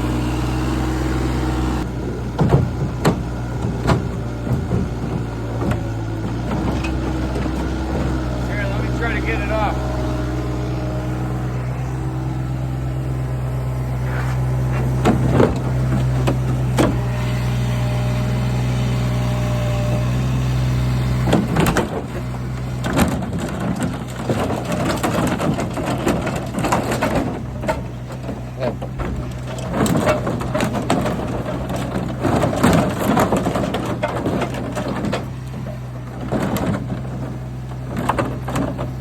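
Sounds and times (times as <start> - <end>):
engine running: 0.0 - 39.0
metal clattering and scraping: 2.2 - 18.1, 19.3 - 39.0.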